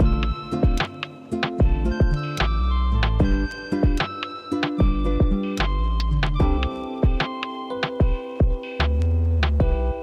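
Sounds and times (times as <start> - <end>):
electronic music with bass: 0.0 - 1.0, 1.6 - 4.2, 4.8 - 7.2, 8.0 - 10.0.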